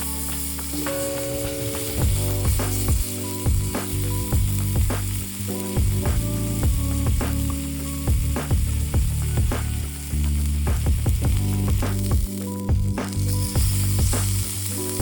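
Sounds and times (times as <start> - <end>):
background music with beat: 0.0 - 15.0
meat sizzling on a griddle: 0.0 - 15.0.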